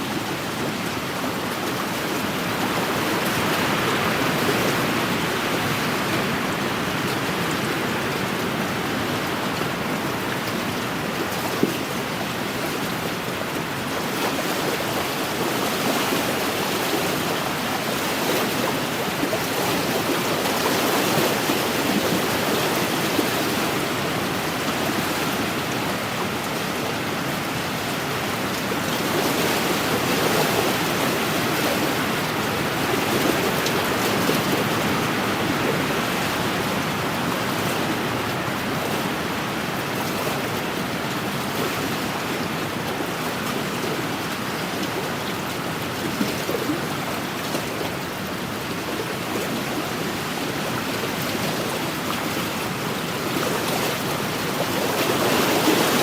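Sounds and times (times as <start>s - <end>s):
waves washing against shore: 0.0s - 56.0s
wind: 0.0s - 56.0s.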